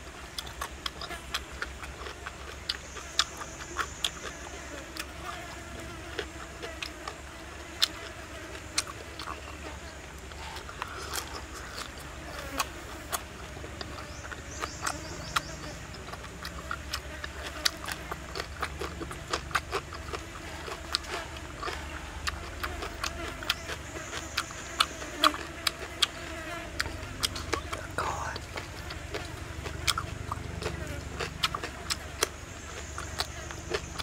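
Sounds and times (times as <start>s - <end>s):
chewing crunchy vegetables: 0.0s - 34.0s
high insect buzz: 0.0s - 34.0s.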